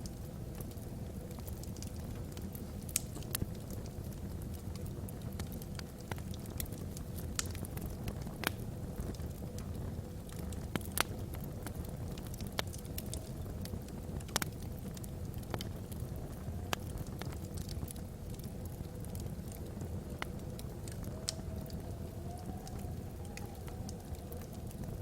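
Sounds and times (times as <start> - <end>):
burning logs crackling: 0.0 - 25.0.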